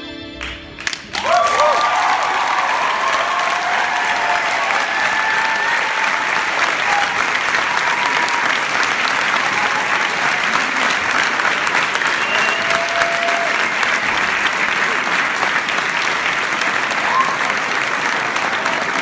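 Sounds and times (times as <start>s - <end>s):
audience applauding: 0.4s - 19.0s.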